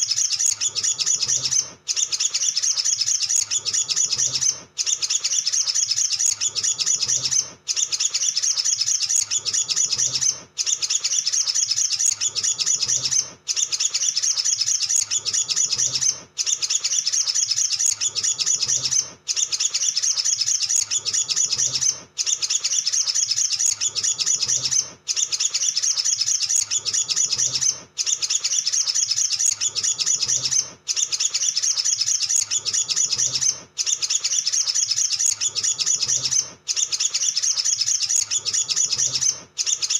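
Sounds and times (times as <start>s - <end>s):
sunbird twittering song: 0.0s - 39.9s.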